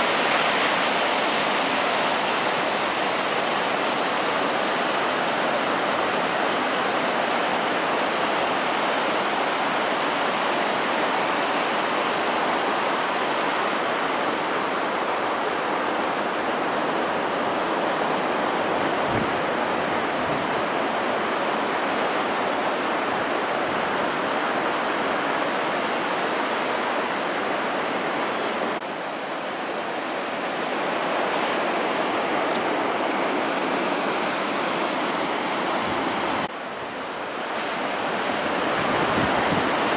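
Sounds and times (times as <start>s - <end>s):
small surf breaking on beach: 0.0s - 36.6s.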